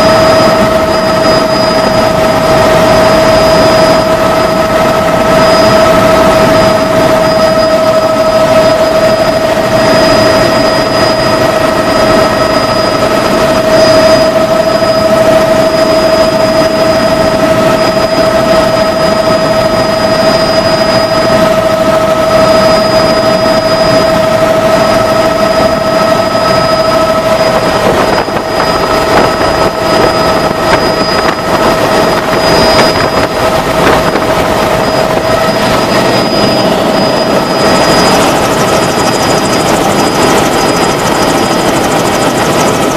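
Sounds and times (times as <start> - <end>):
helicopter engine and rotor: 0.0 - 42.9
helicopter whine: 0.0 - 42.9.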